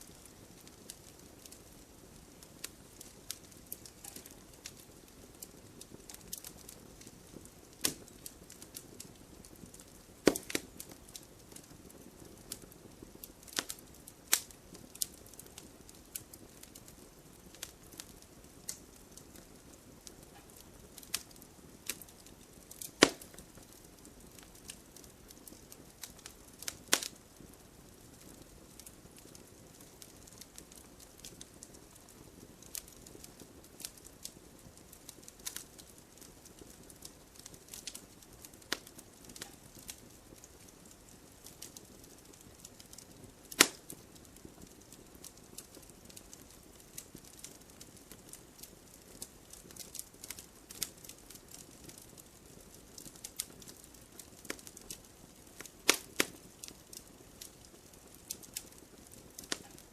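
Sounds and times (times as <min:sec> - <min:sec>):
faint low hiss: 0:00.0 - 0:59.9
fire crackling and popping: 0:00.0 - 0:59.9.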